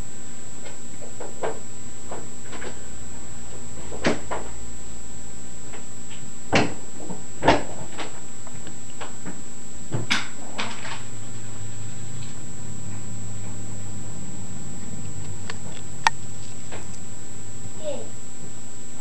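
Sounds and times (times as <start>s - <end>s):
steady hiss: 0.0s - 19.0s
thin high whine: 0.0s - 19.0s.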